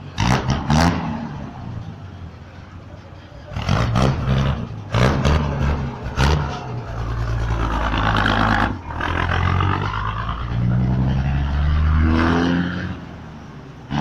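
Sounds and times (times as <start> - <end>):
bus engine revving: 0.0 - 14.0.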